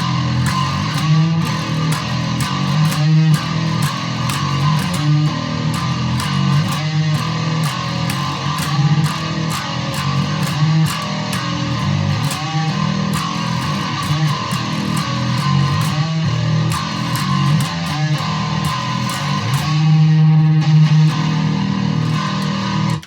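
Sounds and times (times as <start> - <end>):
distorted electric bass: 0.0 - 23.0.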